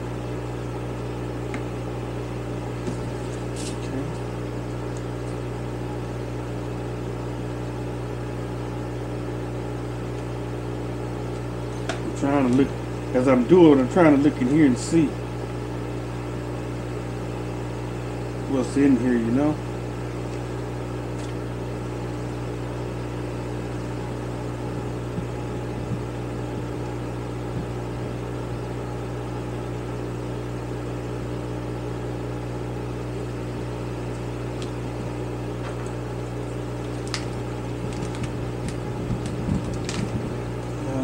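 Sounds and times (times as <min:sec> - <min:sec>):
small fan motor hum: 0:00.0 - 0:41.0.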